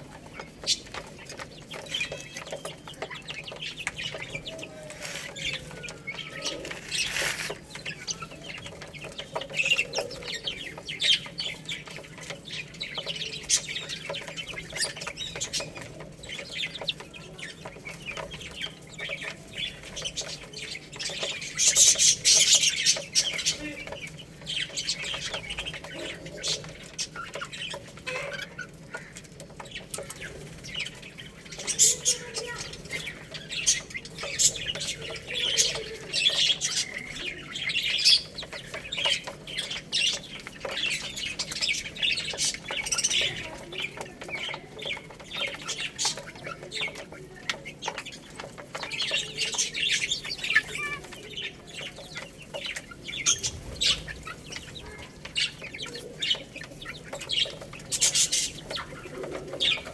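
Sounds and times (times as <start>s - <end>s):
baby chicks chirping: 0.0s - 59.9s
chicks pecking taps: 0.0s - 59.9s.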